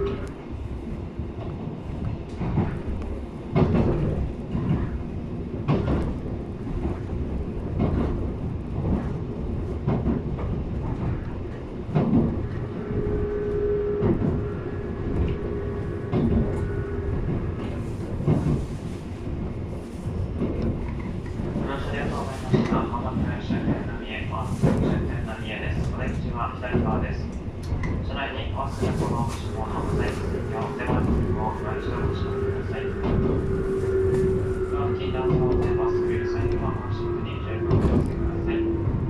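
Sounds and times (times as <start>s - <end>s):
rail joint clacks: 0.0s - 39.0s
train wheels rumbling on rail: 0.0s - 39.0s.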